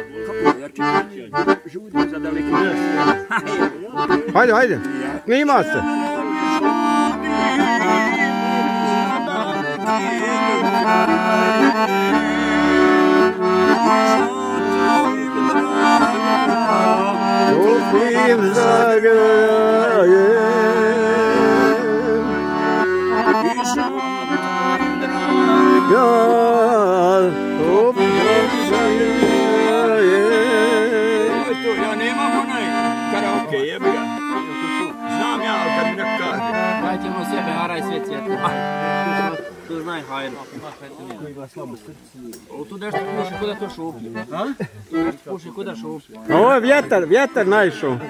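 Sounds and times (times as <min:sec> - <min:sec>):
accordion playing folk tune: 0:00.0 - 0:48.0.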